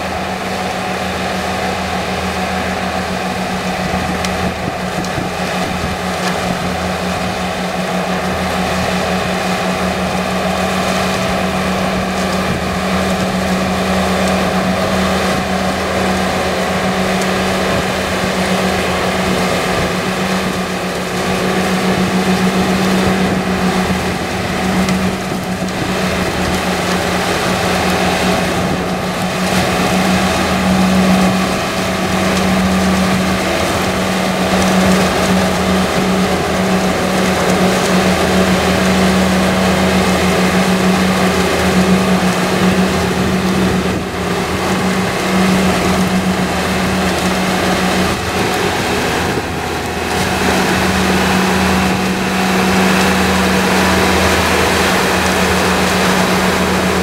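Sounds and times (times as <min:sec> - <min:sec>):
diesel engines droning: 0:00.0 - 0:57.0.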